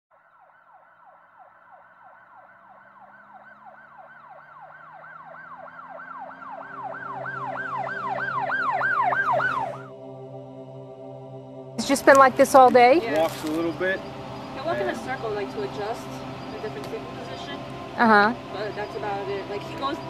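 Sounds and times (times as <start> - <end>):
emergency siren yelping: 0.1 - 20.0.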